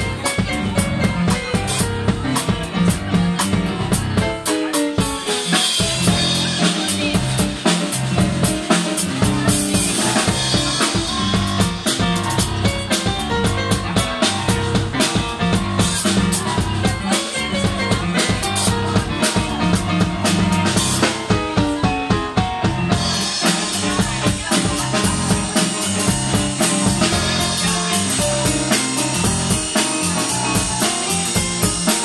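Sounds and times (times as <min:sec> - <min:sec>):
drum kit beat: 0:00.0 - 0:32.0
keyboard playing: 0:00.0 - 0:32.0.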